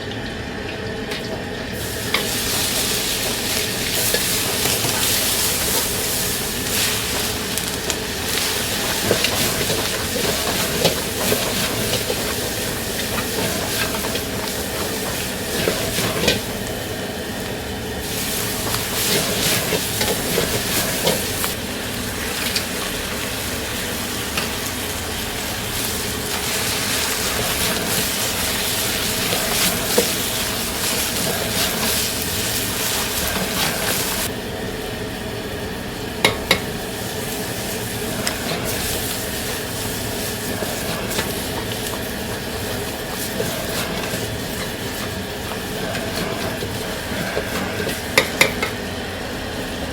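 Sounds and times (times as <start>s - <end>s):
steady kitchen hum: 0.0s - 49.9s
food sizzling in a wok: 1.0s - 49.9s.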